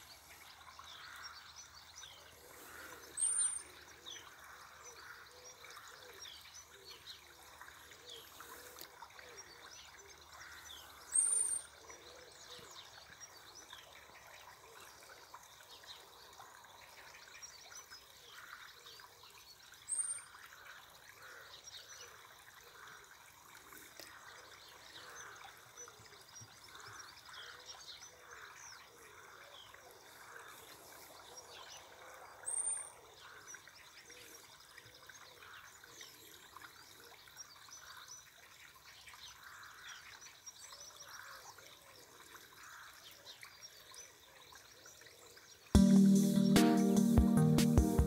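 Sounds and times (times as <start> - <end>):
water trickling: 0.0 - 45.7.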